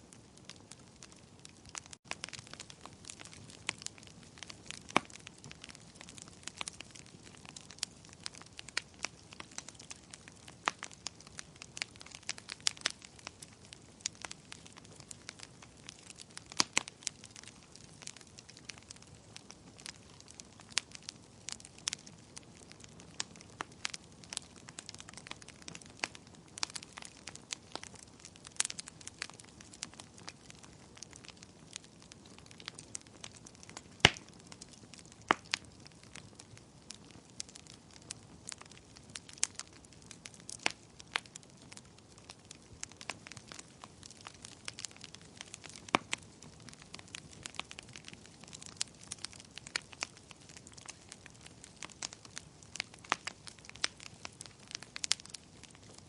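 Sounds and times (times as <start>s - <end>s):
fire crackling and popping: 0.0s - 56.0s
soft hiss of fire: 0.0s - 56.0s.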